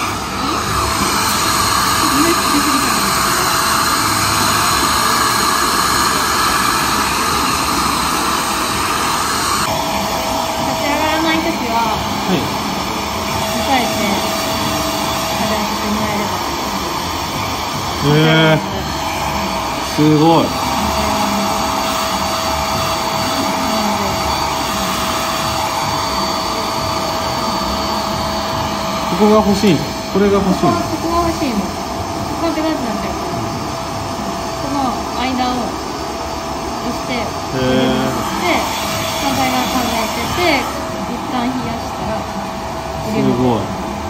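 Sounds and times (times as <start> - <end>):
hair dryer blowing: 0.0 - 44.0.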